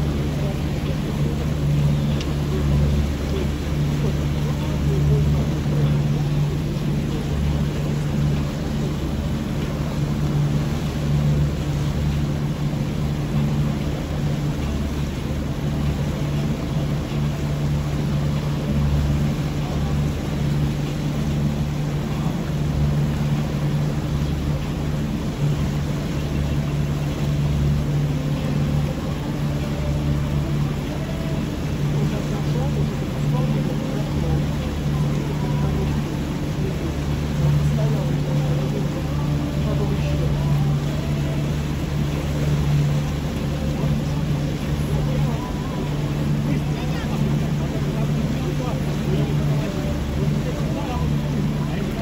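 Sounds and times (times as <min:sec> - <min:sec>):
motorboat engine drone: 0:00.0 - 0:52.0
water rushing past boat: 0:00.0 - 0:52.0.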